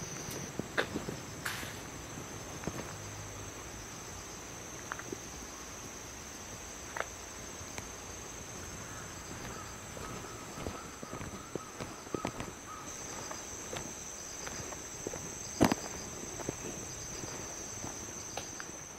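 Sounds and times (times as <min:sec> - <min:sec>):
insects chirring: 0:00.0 - 0:18.9
low outdoor hiss: 0:00.0 - 0:18.9.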